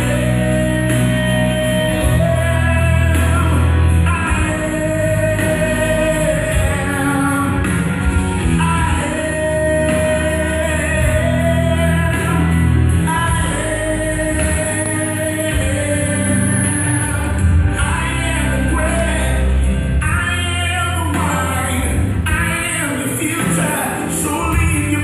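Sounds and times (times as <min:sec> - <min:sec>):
gospel singing with band: 0:00.0 - 0:25.0.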